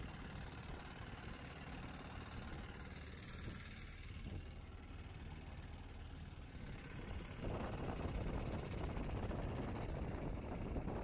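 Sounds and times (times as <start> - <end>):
outboard engine running: 0.0 - 11.0
wind: 0.0 - 11.0.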